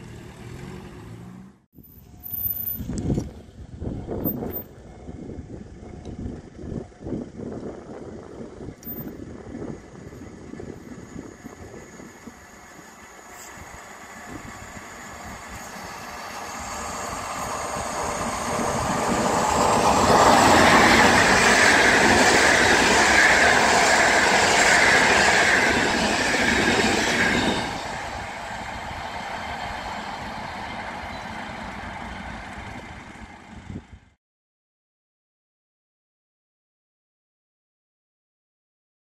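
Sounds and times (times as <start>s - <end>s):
passenger train passing: 2.9s - 34.2s.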